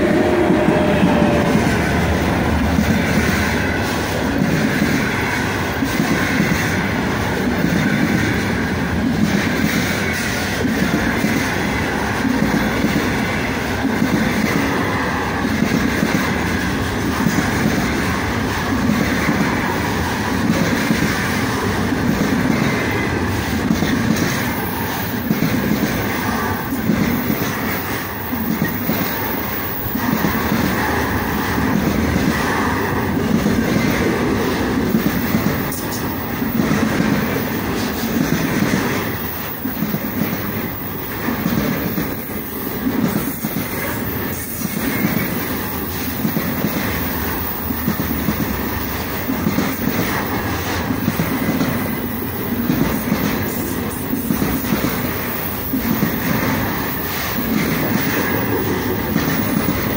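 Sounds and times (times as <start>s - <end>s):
clickety-clack over rail joints: 0.0s - 59.9s
train wheels rumbling: 0.0s - 59.9s.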